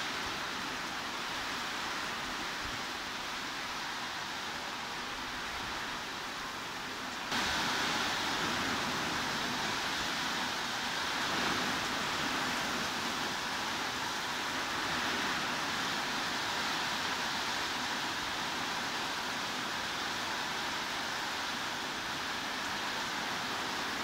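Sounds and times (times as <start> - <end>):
heavy rain hiss: 0.0 - 24.0.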